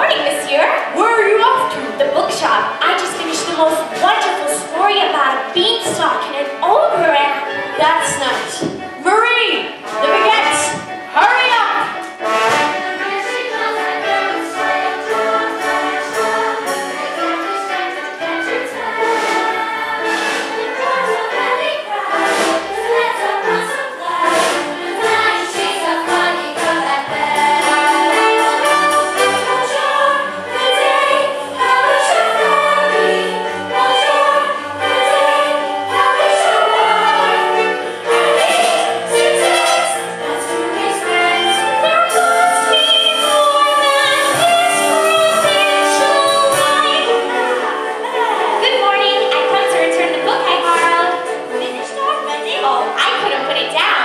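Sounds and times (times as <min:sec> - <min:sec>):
instrumental backing music: 0:00.0 - 0:54.0
chorus singing: 0:09.6 - 0:54.0.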